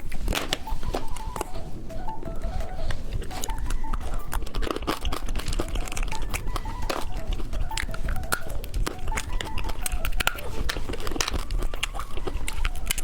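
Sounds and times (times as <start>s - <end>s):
plastic wrapper crinkling and tearing: 0.0s - 13.0s.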